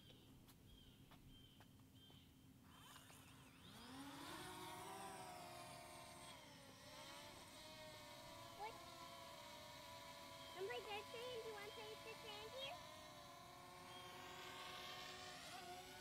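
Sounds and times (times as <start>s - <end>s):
faint motor engine: 0.0s - 16.0s.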